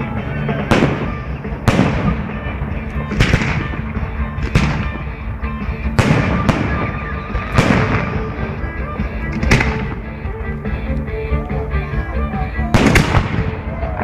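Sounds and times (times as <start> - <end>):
fireworks bursting: 0.0 - 14.0
music playing: 0.0 - 14.0.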